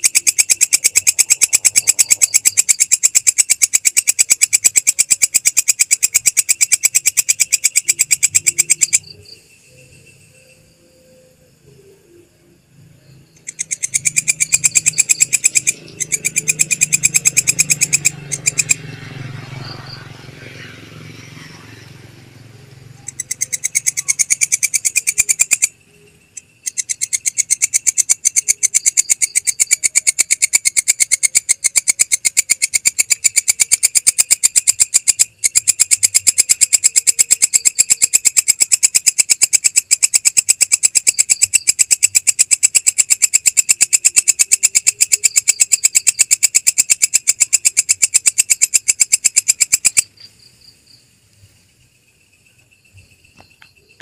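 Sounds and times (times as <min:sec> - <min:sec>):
katydid ticking call: 0:00.0 - 0:12.3, 0:13.0 - 0:51.0.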